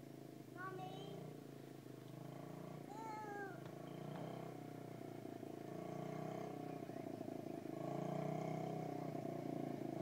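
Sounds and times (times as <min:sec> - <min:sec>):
small motocross bike engine: 0:00.0 - 0:10.0.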